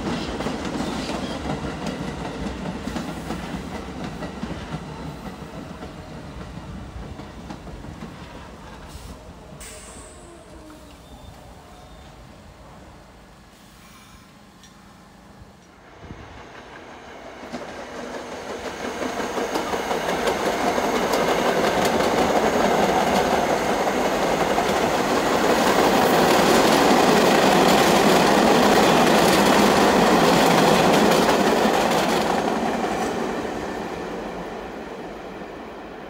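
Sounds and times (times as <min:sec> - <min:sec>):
subway train passing: 0:00.0 - 0:36.0.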